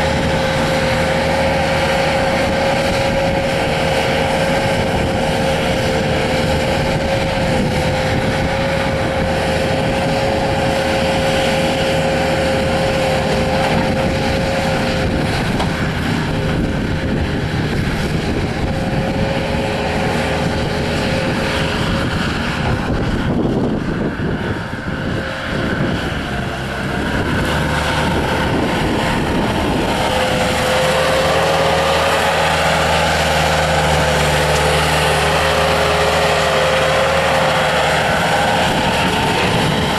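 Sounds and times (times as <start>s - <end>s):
diesel engine running hard: 0.0s - 39.9s
steady whine: 0.0s - 39.9s.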